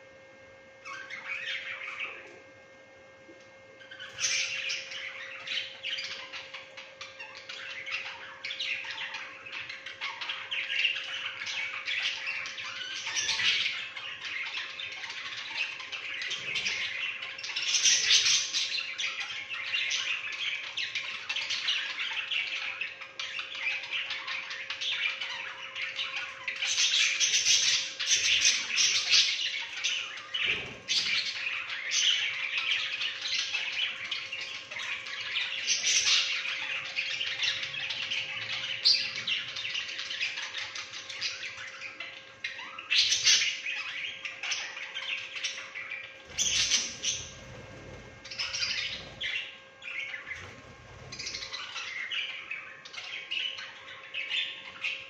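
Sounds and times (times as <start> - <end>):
budgerigars chattering: 3.9 - 55.0.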